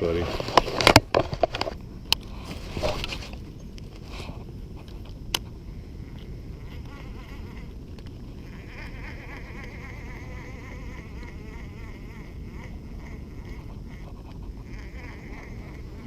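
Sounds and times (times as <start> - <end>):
insects buzzing: 0.0 - 16.0
low rumbling background noise: 0.0 - 16.0.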